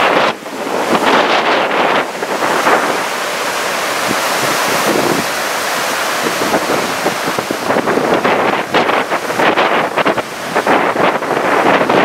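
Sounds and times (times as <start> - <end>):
surf breaking on shore: 0.0 - 12.0
wind buffeting microphone: 0.0 - 12.0.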